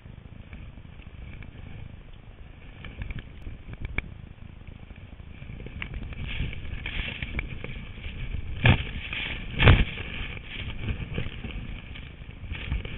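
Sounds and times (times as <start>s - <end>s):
wind rumble: 0.0s - 12.9s.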